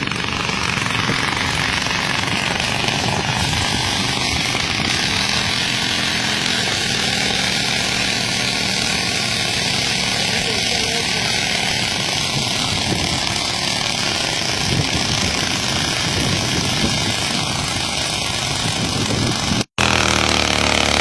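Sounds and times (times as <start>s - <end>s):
strong hissing noise: 0.0s - 20.0s
small motorcycle engine running: 0.0s - 21.0s.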